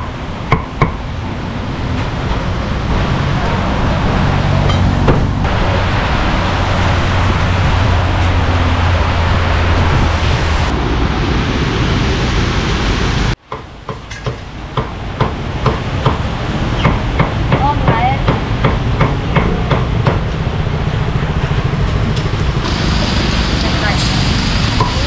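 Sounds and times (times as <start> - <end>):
loud rushing noise with low hum: 0.0 - 25.0.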